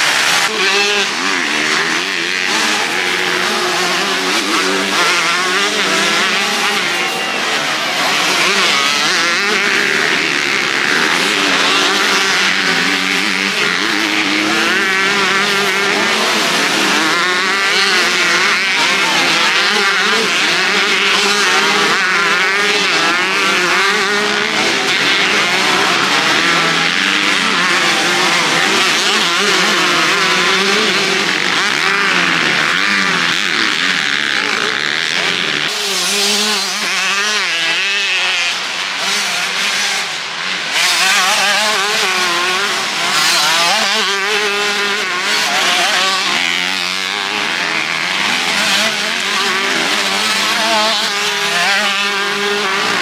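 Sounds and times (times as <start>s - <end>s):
motocross bikes revving: 0.0s - 53.0s.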